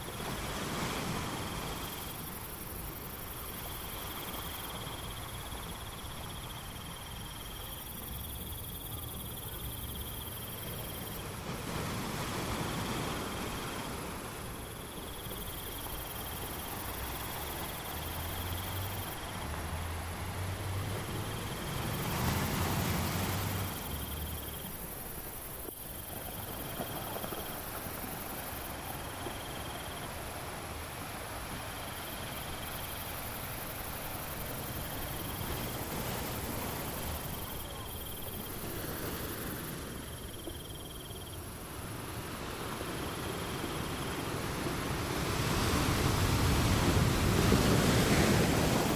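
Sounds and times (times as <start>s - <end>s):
constant natural hiss: 0.0s - 48.9s
crickets trilling: 0.0s - 48.9s.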